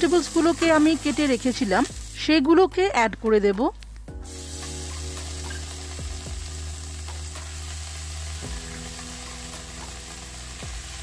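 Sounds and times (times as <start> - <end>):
vegetables sizzling in hot oil: 0.0 - 2.6, 4.2 - 11.0.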